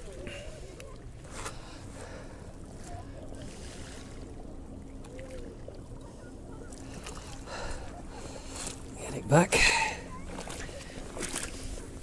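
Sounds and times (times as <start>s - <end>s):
faint steady hum: 0.0s - 12.0s
shallow water moving around legs: 0.0s - 12.0s.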